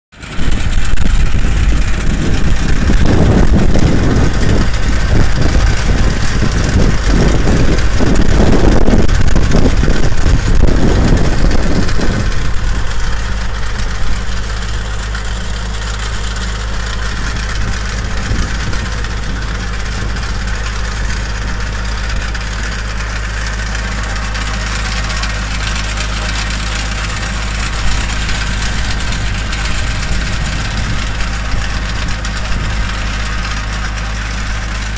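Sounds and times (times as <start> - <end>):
tractor engine under load: 0.1 - 34.9
uneven rumble: 0.2 - 34.9.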